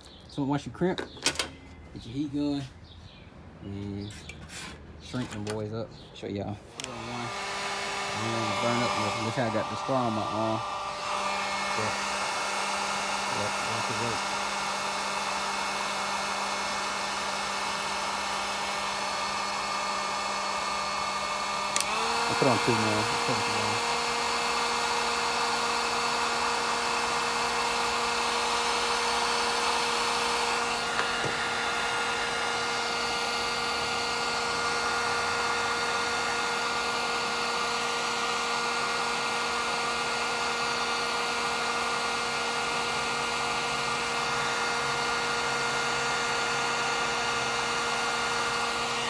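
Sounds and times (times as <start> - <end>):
heat gun fan and motor hum: 0.0 - 49.0.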